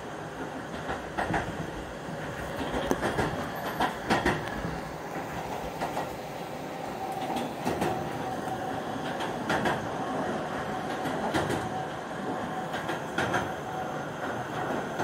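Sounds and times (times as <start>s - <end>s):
wheels clicking over rail joints: 0.0s - 6.2s, 7.0s - 15.0s
wheels rumbling on rail: 0.0s - 15.0s.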